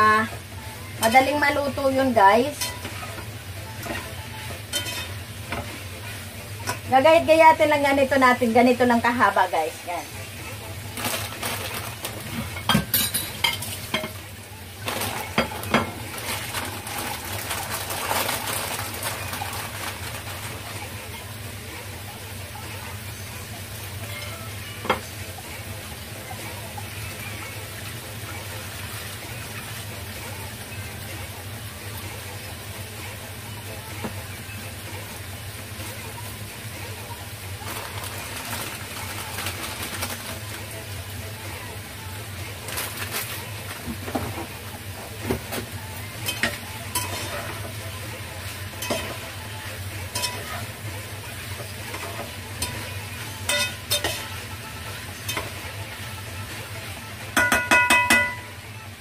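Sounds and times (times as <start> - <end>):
food sizzling: 0.0 - 59.0.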